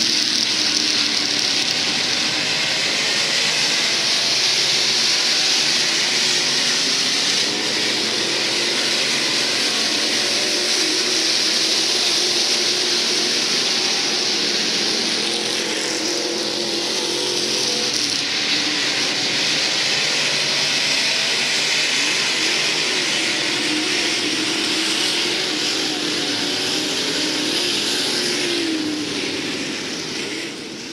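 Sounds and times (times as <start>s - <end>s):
race car engines passing: 0.0s - 30.9s.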